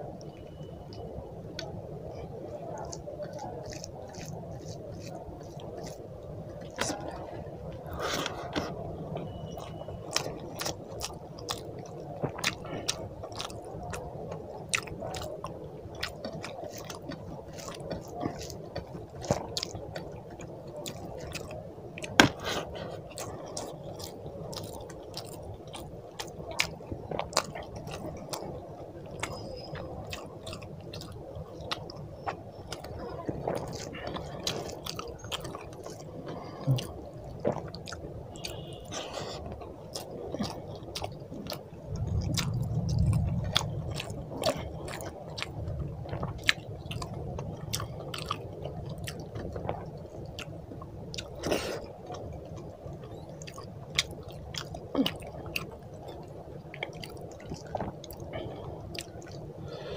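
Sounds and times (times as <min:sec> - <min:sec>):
wet chewing: 0:00.2 - 0:59.9.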